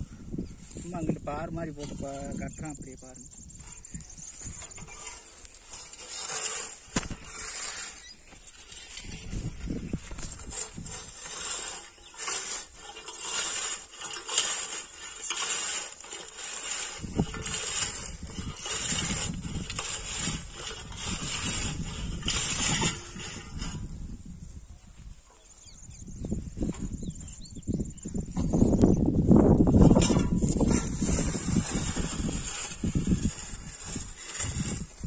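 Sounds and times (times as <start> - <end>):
weeder crunching through dry soil: 0.0 - 35.0.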